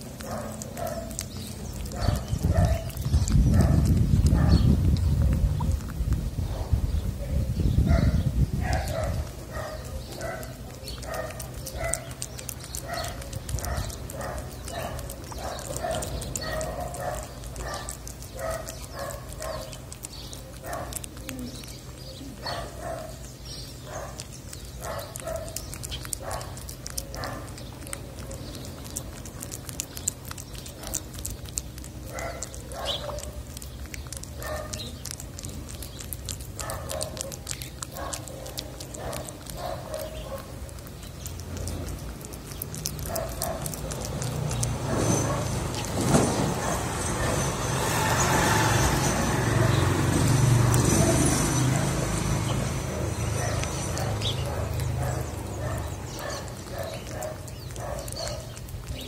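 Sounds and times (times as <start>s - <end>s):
cat chewing wet food: 0.0s - 59.0s.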